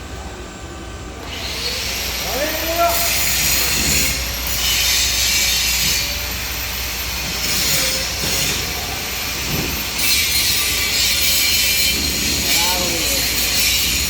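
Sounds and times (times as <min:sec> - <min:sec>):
welding arc buzzing and hissing: 0:01.2 - 0:14.0.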